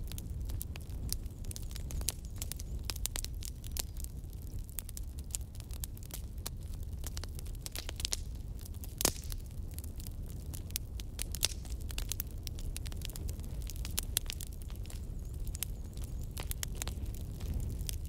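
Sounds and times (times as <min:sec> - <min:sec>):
campfire crackling and popping: 0:00.0 - 0:18.0
low fire rumble: 0:00.0 - 0:18.0.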